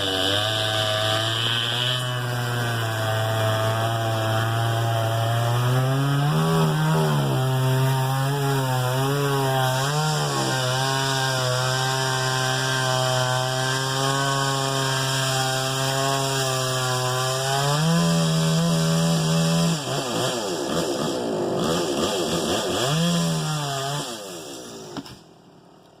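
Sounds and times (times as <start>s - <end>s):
chainsaw sawing wood: 0.0s - 25.4s.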